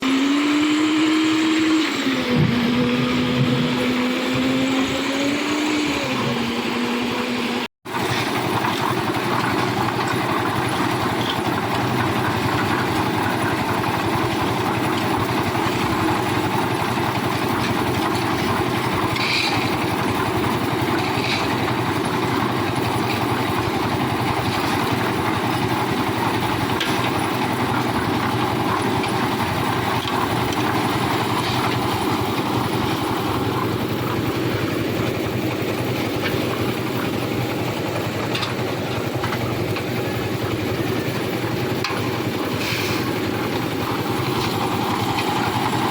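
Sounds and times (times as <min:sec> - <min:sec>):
concrete mixer engine running: 0:00.0 - 0:45.9.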